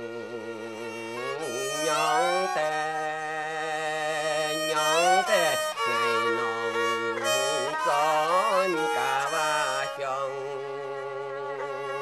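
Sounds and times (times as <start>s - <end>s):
bowed strings melody: 0.0s - 12.0s.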